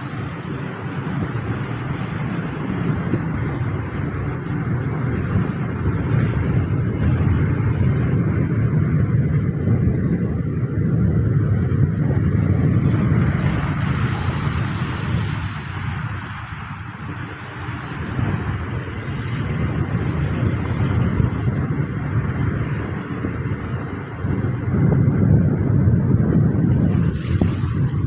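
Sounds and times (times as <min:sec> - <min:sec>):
vehicle rumble: 0:00.0 - 0:28.0
wind on microphone: 0:00.0 - 0:28.0.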